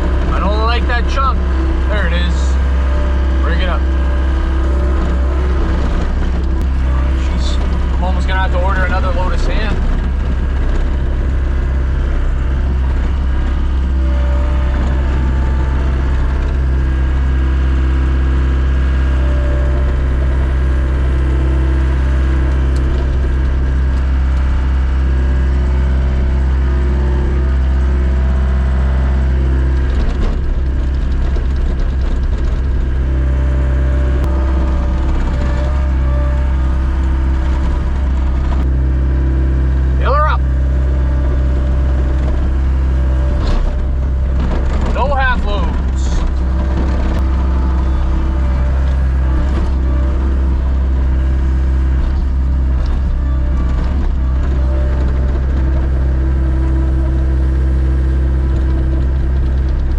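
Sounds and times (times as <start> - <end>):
vehicle engine droning: 0.0 - 59.9.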